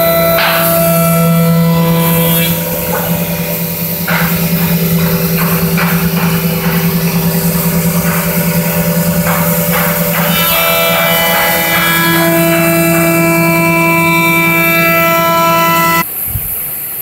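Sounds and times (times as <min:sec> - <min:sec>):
router spindle cutting wood: 0:00.0 - 0:16.0.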